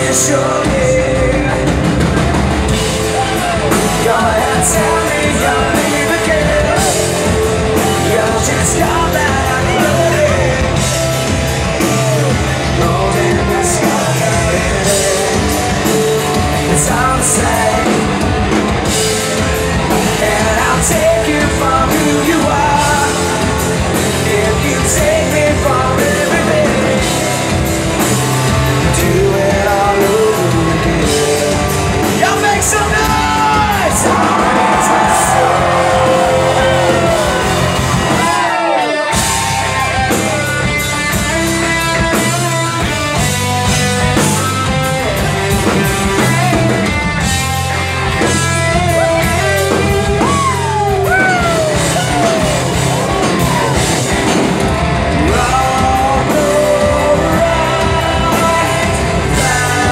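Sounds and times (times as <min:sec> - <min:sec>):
person singing lead vocal: 0:00.0 - 0:47.4, 0:48.2 - 0:59.9
live rock band playing: 0:00.0 - 0:59.9.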